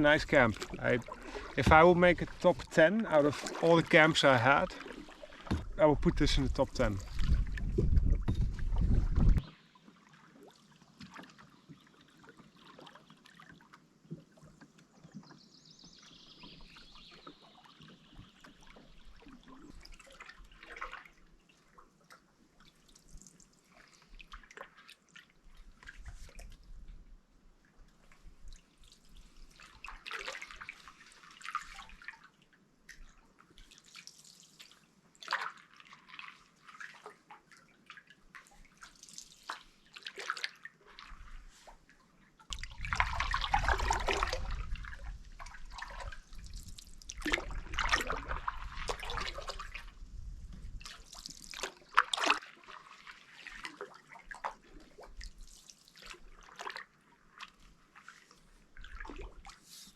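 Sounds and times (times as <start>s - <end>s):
canoe paddle splashing: 0.0s - 26.8s, 28.1s - 59.9s.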